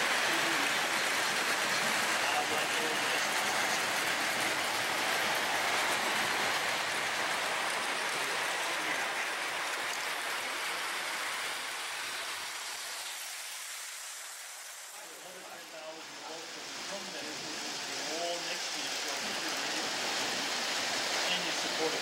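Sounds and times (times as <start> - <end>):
model train wheels whirring on rails: 0.0 - 22.0.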